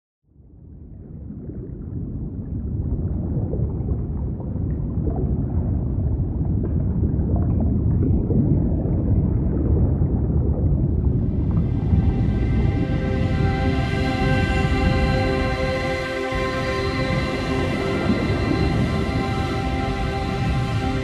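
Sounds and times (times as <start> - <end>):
low gurgling rumble: 0.4 - 21.0.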